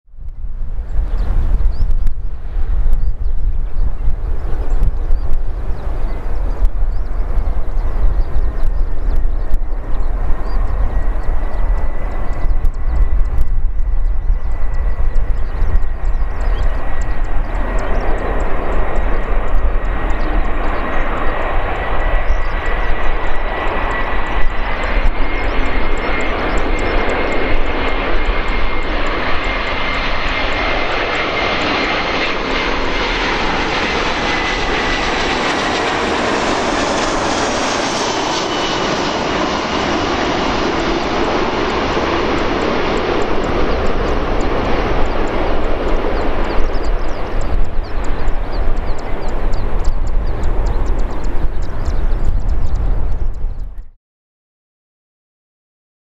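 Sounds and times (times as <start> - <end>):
gusty low rumble: 0.1 - 54.0
jet airliner passing: 0.2 - 54.0.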